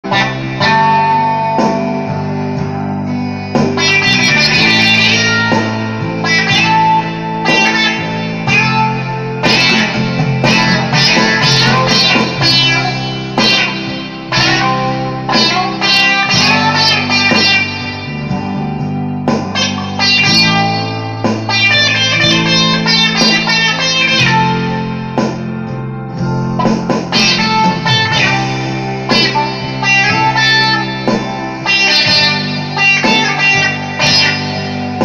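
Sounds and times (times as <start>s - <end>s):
electric guitar notes and chords: 0.0s - 35.0s.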